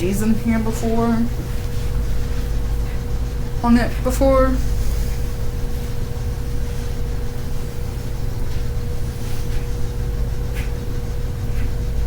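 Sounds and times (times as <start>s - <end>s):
ceiling fan humming: 0.0s - 12.0s.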